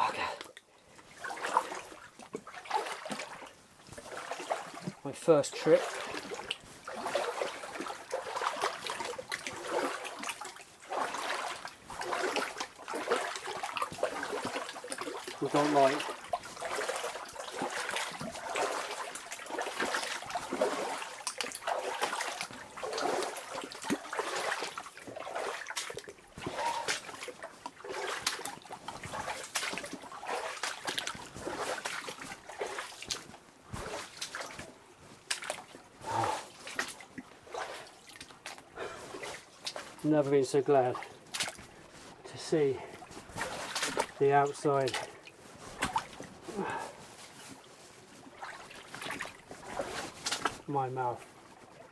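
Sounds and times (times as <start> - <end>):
person wading through water: 0.0 - 51.9.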